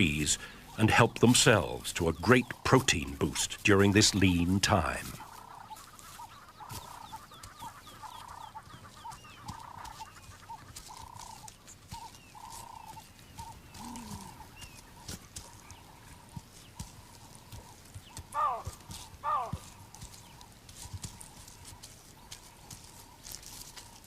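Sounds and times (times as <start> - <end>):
bird clucking calls: 0.0 - 24.0.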